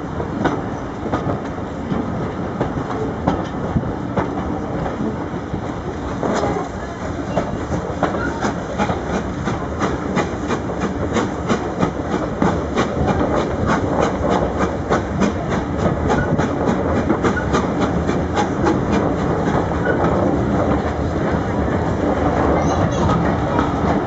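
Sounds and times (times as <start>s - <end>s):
train rumbling with rhythmic beat: 0.0s - 24.0s.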